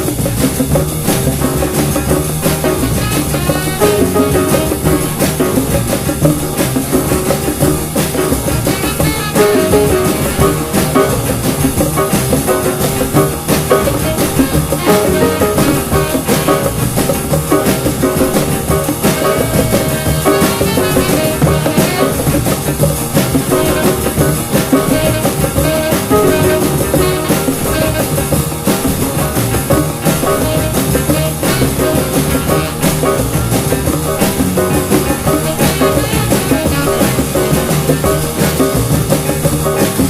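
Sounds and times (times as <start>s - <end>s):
drum kit beat: 0.0s - 40.0s
guitar: 0.0s - 40.0s.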